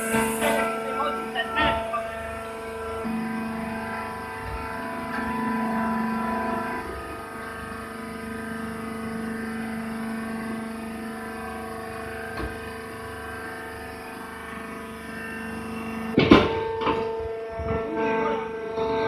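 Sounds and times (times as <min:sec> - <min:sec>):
baling machine motor humming: 0:00.0 - 0:19.0.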